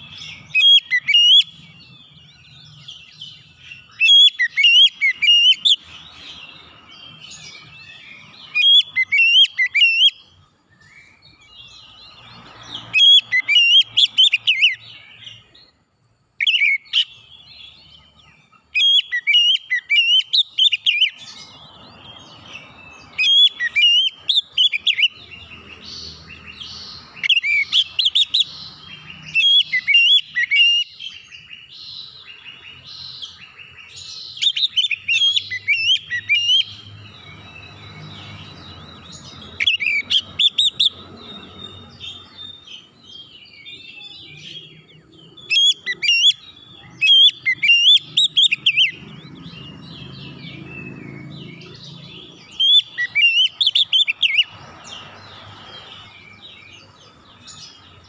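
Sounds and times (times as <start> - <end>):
bird singing whistled phrases: 0.0 - 6.4, 7.1 - 11.2, 12.9 - 15.5, 16.4 - 21.4, 23.1 - 49.6, 50.2 - 54.5.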